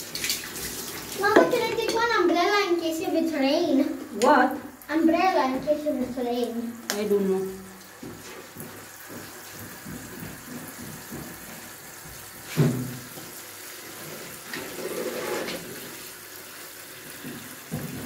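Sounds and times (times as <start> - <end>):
shower water running into bucket: 0.0 - 18.0.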